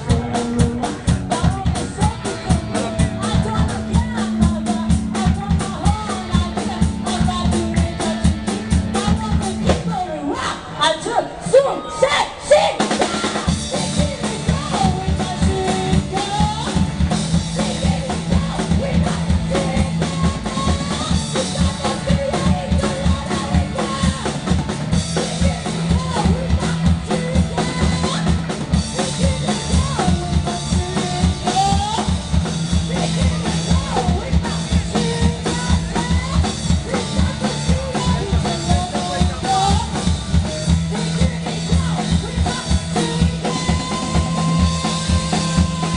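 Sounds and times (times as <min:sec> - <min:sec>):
drum kit beat: 0:00.0 - 0:10.1, 0:12.5 - 0:45.9
bass line: 0:00.0 - 0:45.9
live rock band playing: 0:00.0 - 0:45.9.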